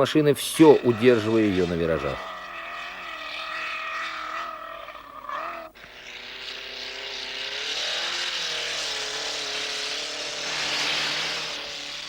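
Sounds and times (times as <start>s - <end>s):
rally car engine revving: 0.4s - 12.0s.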